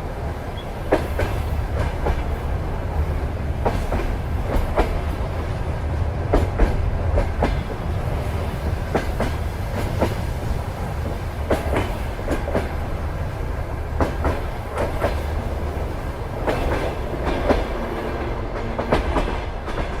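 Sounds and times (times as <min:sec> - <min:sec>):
train wheels clattering: 0:00.2 - 0:20.0.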